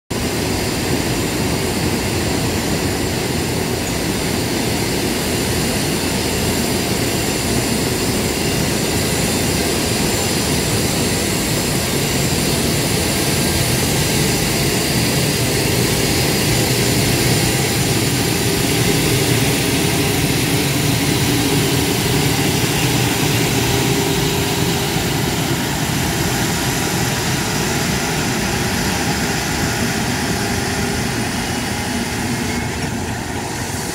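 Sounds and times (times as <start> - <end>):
electric locomotive whirring hum: 0.2 - 33.9.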